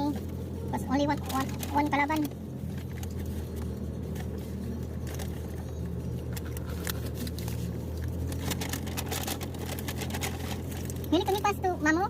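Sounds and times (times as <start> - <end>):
diesel engine humming: 0.0 - 12.0
food packaging rustling: 1.2 - 11.1.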